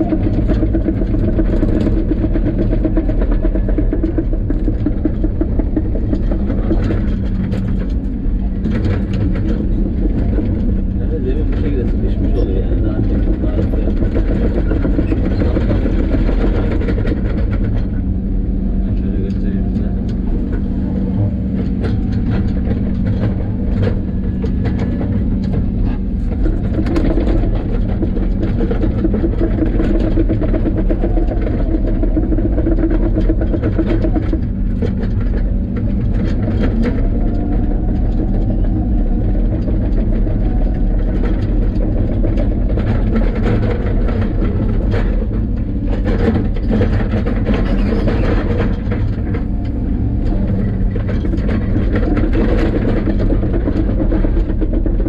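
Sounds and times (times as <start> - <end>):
diesel engine under load: 0.0 - 55.0
machine clanking and rattling: 0.0 - 55.0.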